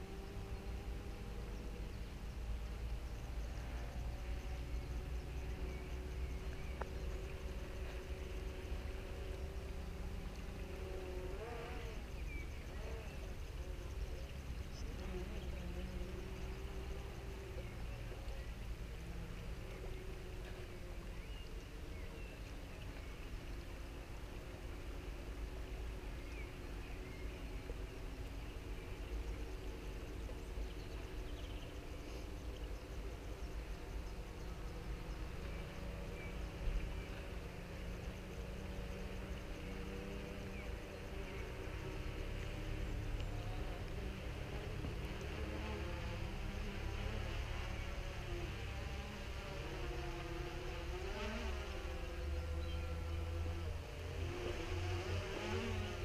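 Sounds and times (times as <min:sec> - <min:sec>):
drone propellers humming: 0:00.0 - 0:56.0
wind rumbling on microphone: 0:00.0 - 0:56.0.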